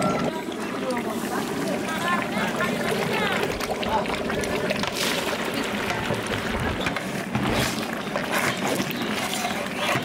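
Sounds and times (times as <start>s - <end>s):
ladle stirring in pot: 1.0s - 10.0s.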